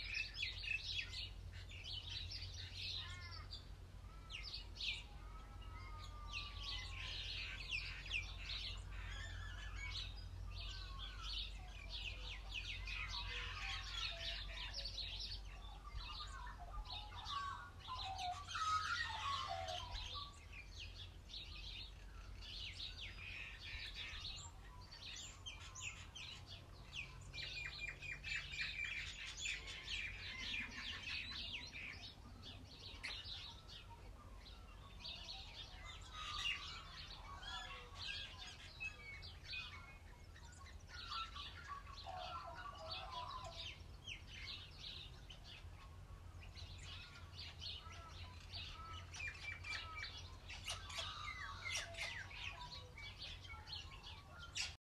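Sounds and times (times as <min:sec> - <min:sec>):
birds chirping and trilling: 0:00.0 - 0:54.8.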